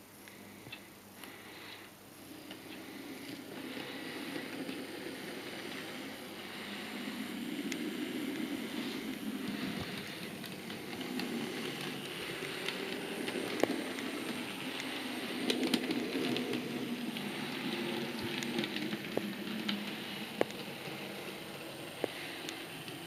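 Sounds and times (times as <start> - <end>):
model train rumbling on track: 1.7 - 23.0.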